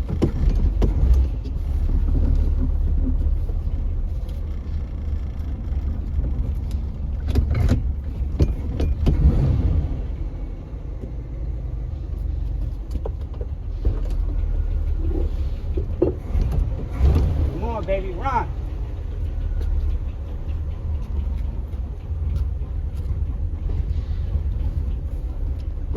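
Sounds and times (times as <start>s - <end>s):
car engine rumbling: 0.0s - 25.9s.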